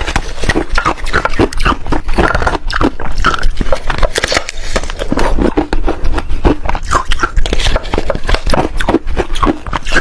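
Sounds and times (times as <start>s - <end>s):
ice crunching between teeth: 0.0s - 10.0s.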